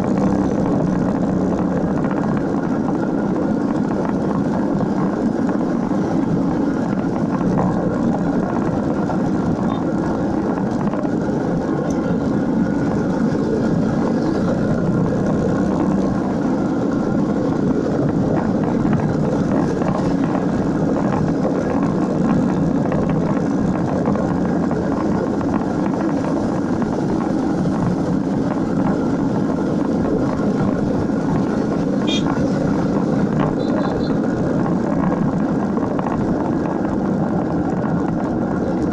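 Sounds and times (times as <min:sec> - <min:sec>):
motorcycle engine running: 0:00.0 - 0:38.9
road noise: 0:00.0 - 0:38.9
wind: 0:00.0 - 0:38.9.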